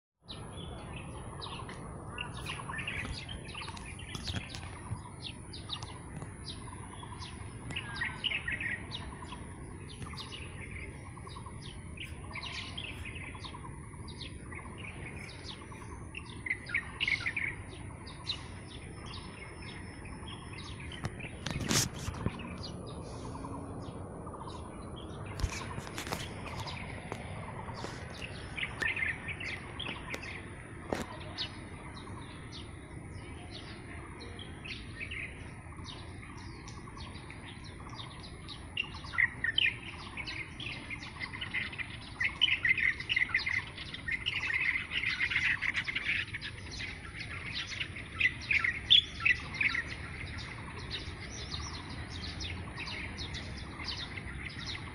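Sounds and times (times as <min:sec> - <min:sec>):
small birds chirping: 0:00.2 - 0:54.9.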